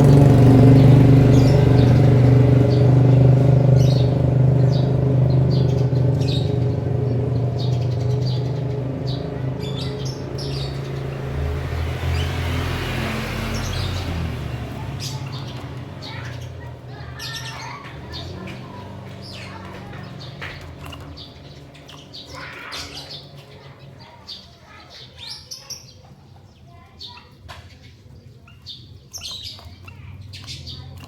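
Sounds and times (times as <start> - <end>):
cage birds chirping: 0.0 - 31.0.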